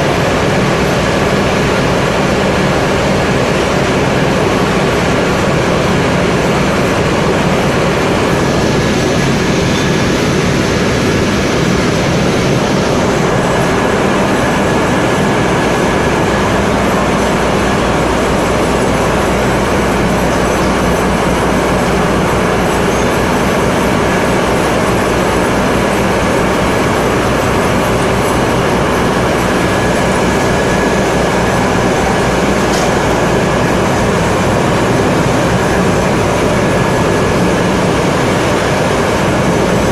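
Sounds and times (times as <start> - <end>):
machinery mechanical din: 0.0 - 39.9.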